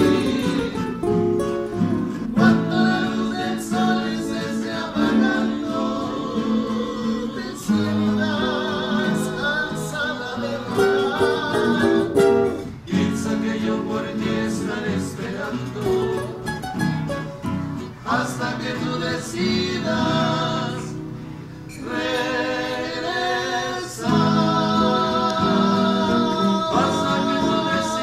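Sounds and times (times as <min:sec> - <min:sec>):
plucked acoustic guitars: 0:00.0 - 0:28.0
singing with vibrato: 0:00.0 - 0:28.0.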